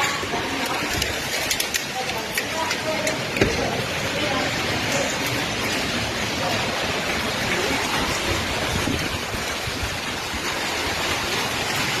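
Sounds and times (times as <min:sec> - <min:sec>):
hail and heavy rain falling: 0:00.0 - 0:12.0.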